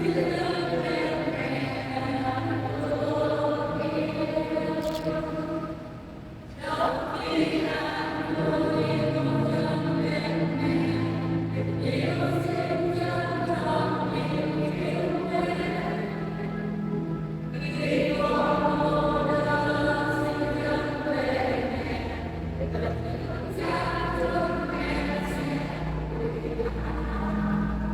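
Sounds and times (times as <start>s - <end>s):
choir singing a hymn: 0.0s - 27.9s.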